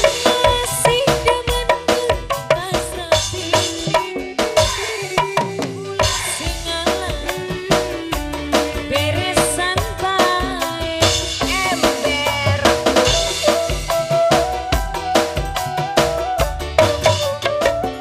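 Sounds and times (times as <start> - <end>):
drum kit and hand drums beating: 0.0 - 18.0
sliding melodic lead line: 0.0 - 18.0.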